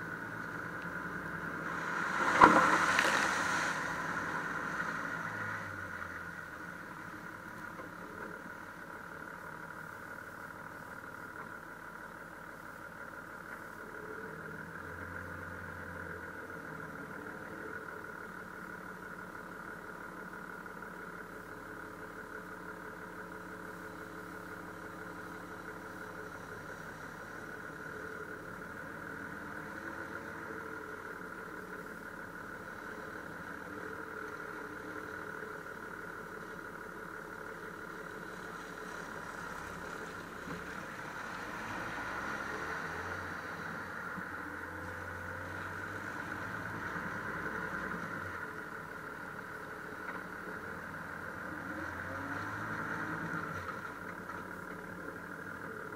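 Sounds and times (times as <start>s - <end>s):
car engine at low revs: 0.0s - 55.9s.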